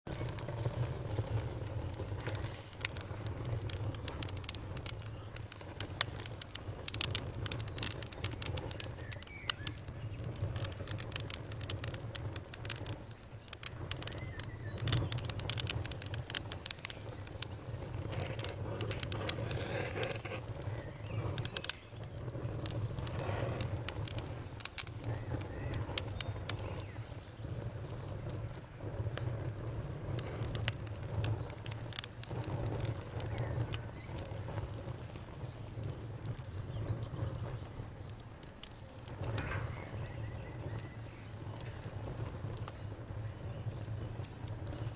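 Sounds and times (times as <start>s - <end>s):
campfire crackling and popping: 0.1s - 44.9s.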